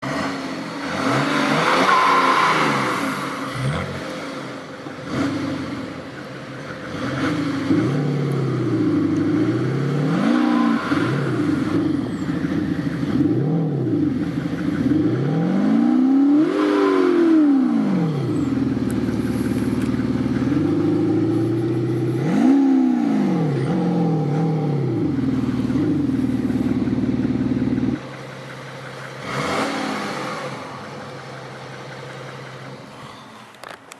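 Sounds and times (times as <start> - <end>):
diesel car engine revving: 0.0 - 33.9.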